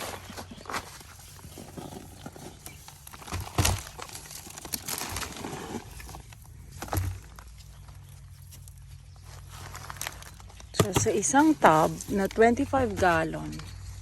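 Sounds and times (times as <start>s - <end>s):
rustling and scraping in soil: 0.0s - 14.0s.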